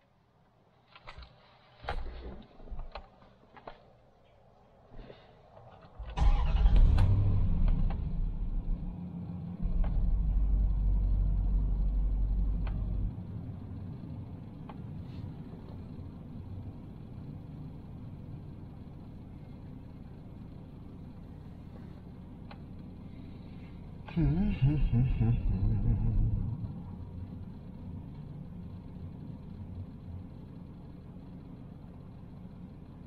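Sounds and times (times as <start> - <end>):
car engine starting and idling: 5.9 - 32.9.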